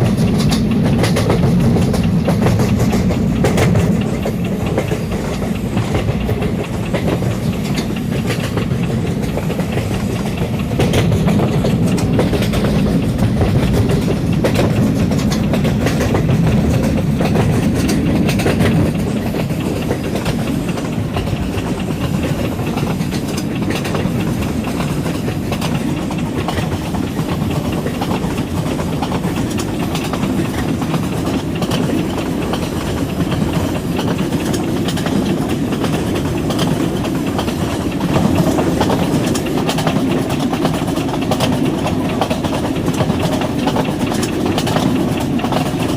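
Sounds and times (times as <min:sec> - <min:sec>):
diesel train rumbling: 0:00.0 - 0:45.9.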